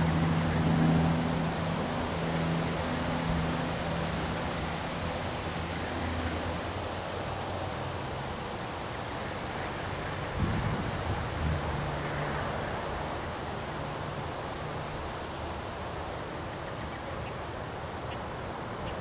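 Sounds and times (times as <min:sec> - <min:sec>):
strong wind through trees: 0:00.0 - 0:19.0.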